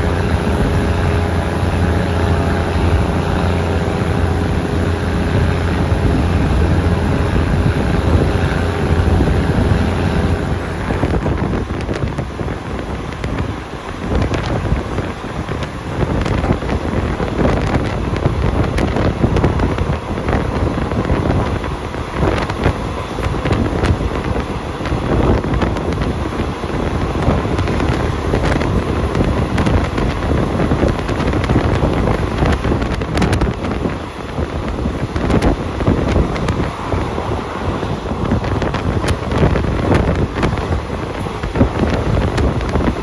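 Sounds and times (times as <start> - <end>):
train running noise: 0.0 - 43.0
wheels clicking on track: 0.0 - 43.0
wind buffeting microphone: 0.0 - 43.0.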